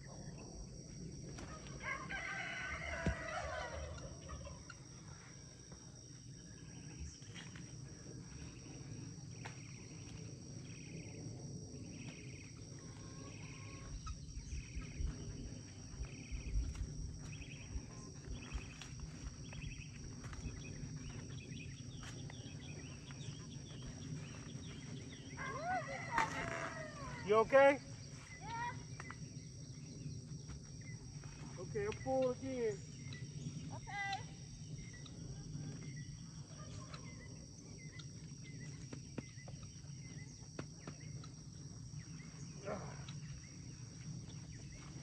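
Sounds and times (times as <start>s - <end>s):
insects chirping: 0.0s - 45.0s.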